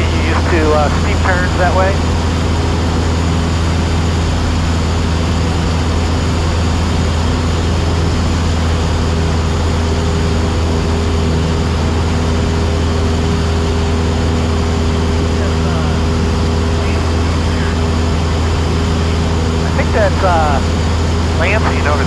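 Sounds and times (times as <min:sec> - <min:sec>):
airplane engine hum in cabin: 0:00.0 - 0:22.0.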